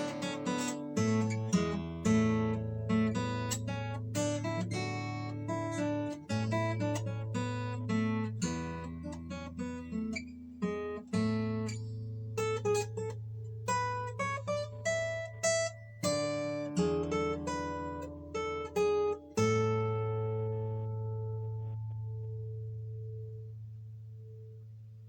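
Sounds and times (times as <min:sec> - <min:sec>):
fingerstyle acoustic guitar: 0:00.0 - 0:25.0.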